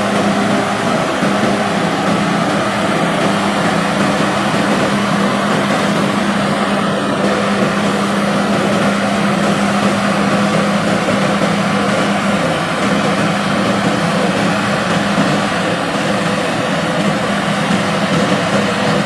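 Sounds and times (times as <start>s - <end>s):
combine harvester droning: 0.0s - 19.0s.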